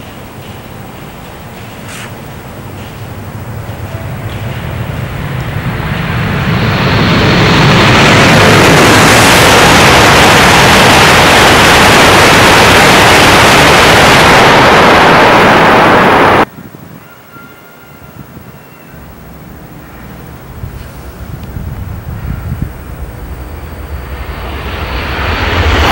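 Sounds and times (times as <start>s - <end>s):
high-speed train rushing roar: 0.0s - 25.9s.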